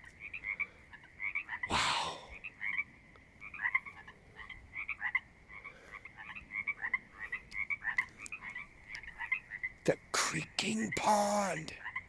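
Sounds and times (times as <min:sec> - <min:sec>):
chorus of frogs calling: 0:00.0 - 0:12.0.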